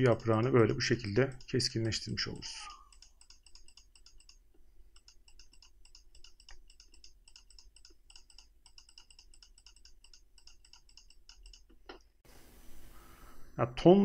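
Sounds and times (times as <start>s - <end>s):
rapid computer mouse clicking: 0.0s - 12.1s.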